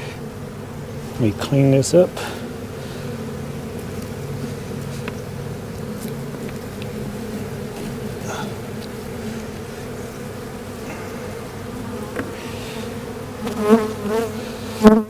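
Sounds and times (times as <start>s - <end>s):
honeybees buzzing: 0.0s - 15.0s
loud wavering bee buzzes: 0.0s - 15.0s.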